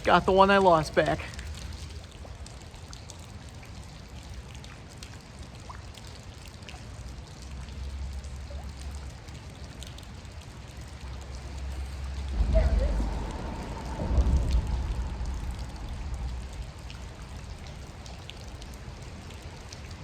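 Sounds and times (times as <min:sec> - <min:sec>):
rain drops ticking: 0:00.0 - 0:20.0
running creek water: 0:00.0 - 0:20.0.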